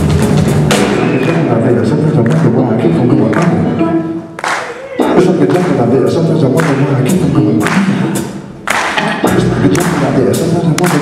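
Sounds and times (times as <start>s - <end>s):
man vocalising into microphone: 1.0s - 11.0s.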